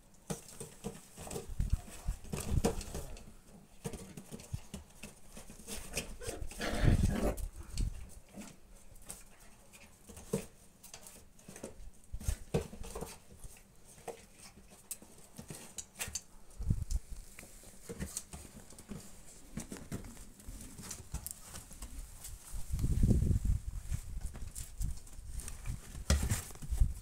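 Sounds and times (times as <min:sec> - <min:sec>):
puppies pattering on wood: 0:00.1 - 0:27.0.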